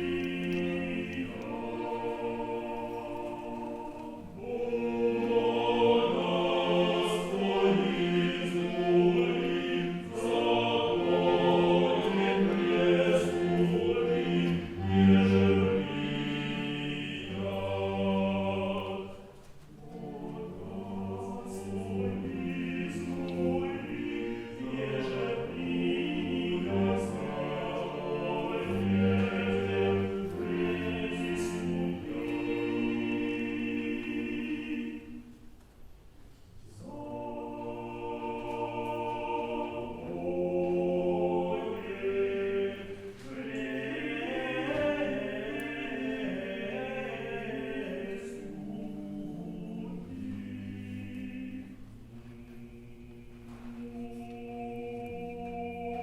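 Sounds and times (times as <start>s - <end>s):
choir singing: 0.0s - 35.6s, 36.6s - 56.0s.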